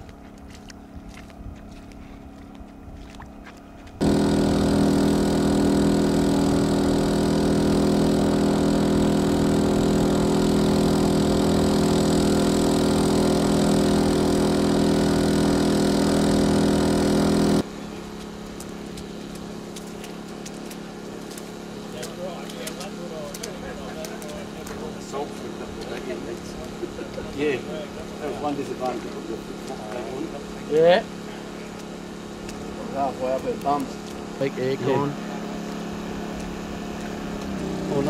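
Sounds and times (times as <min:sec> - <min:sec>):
motor running steadily: 0:00.0 - 0:38.0.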